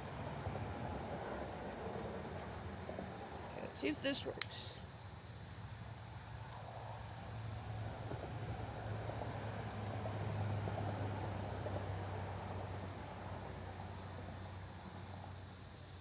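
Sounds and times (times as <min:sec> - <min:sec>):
insect chorus trilling: 0:00.0 - 0:16.0.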